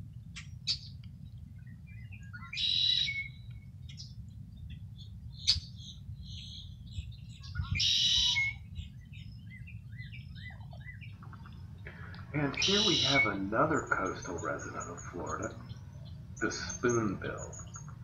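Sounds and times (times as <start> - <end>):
bird chirps and ticks: 0.2 - 18.0
harsh buzzy bird calls: 1.7 - 18.0.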